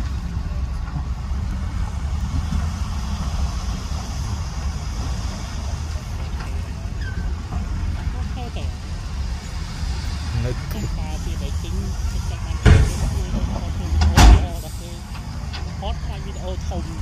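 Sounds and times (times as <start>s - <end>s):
diesel truck engines rumbling: 0.0s - 17.0s.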